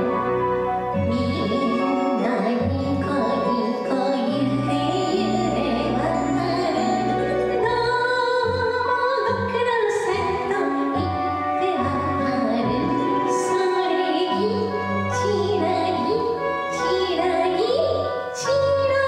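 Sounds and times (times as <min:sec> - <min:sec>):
instrumental accompaniment: 0:00.0 - 0:19.0
woman singing children's song: 0:01.0 - 0:19.0.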